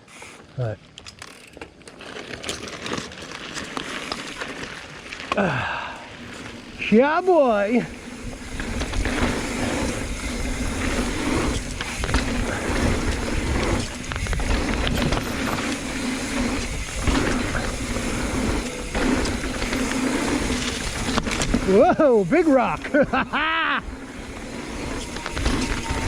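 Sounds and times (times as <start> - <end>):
bike rattling: 0.0 - 26.0
bike tyres rolling over dirt: 0.0 - 26.0.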